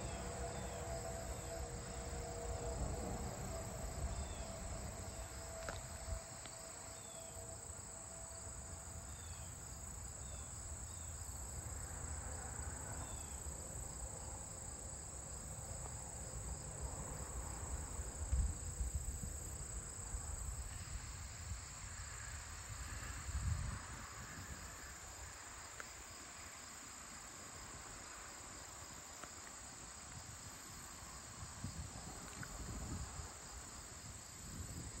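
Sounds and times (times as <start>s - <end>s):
crickets and insects trilling: 0.0s - 35.0s.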